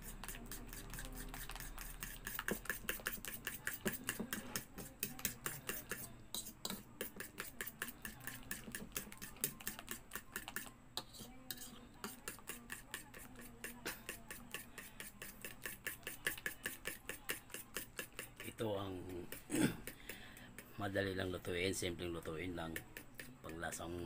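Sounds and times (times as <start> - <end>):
spoon stirring batter in bowl: 0.0 - 24.0.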